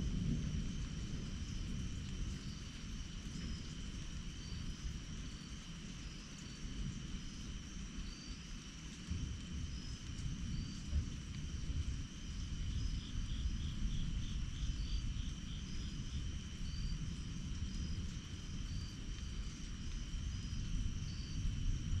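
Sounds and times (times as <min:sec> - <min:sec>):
insect trills: 0:00.0 - 0:22.0
short insect chirp: 0:00.6 - 0:21.9.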